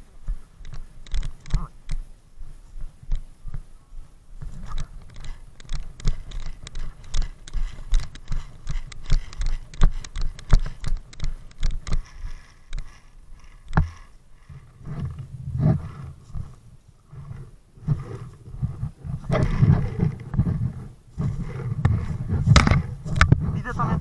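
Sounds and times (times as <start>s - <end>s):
footsteps: 0.0s - 24.0s
gear knocking against camera: 0.2s - 2.1s, 4.4s - 24.0s.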